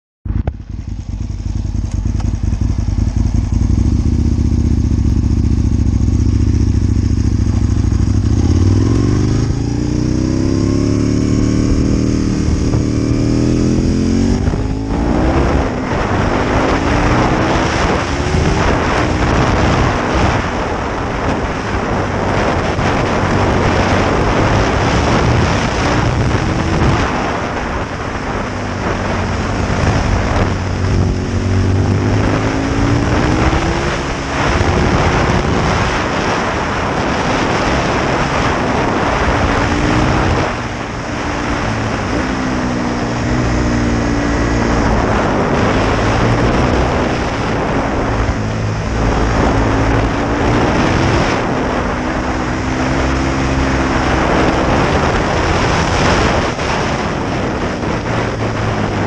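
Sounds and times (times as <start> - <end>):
motorcycle engine revving: 0.3 - 59.0
wind buffeting microphone: 0.3 - 59.0.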